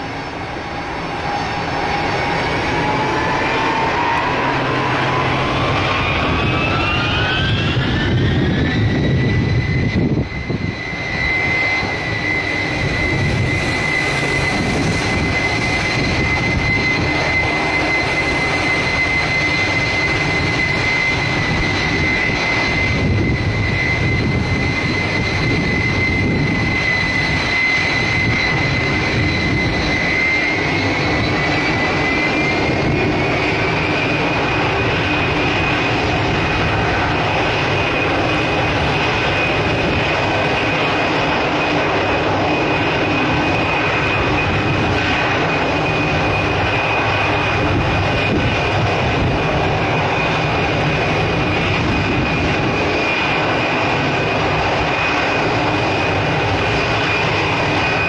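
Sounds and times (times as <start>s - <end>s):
jet engines roaring and whining: 0.0s - 58.0s.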